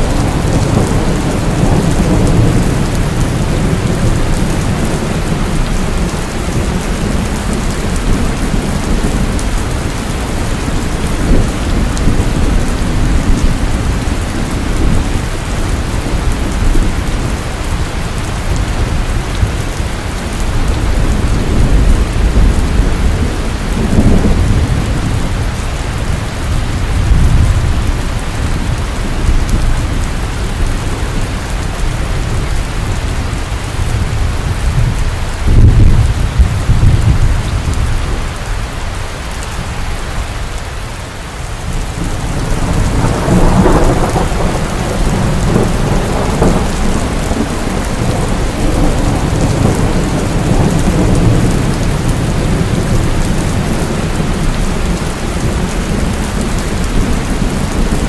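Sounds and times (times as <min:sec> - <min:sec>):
rain falling: 0:00.0 - 0:58.0
thunder rumbling: 0:00.0 - 0:58.0.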